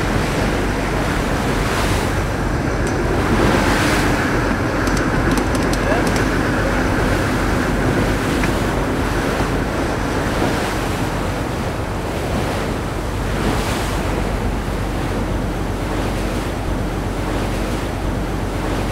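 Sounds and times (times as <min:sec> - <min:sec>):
low hum: 0:00.0 - 0:18.8
water rushing along boat hull: 0:00.0 - 0:18.9
wind on microphone: 0:00.0 - 0:18.9.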